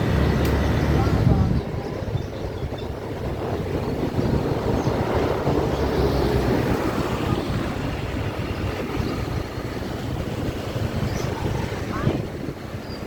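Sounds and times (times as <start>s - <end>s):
low rumble of traffic: 0.0s - 13.0s
wind on microphone: 0.0s - 13.0s.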